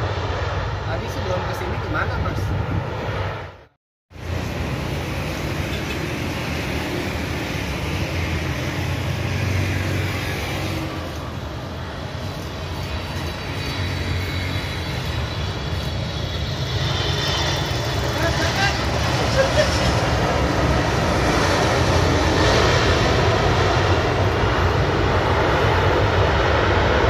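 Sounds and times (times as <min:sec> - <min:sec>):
jet engine whine: 0:00.0 - 0:27.0
road traffic rumble: 0:00.0 - 0:27.0.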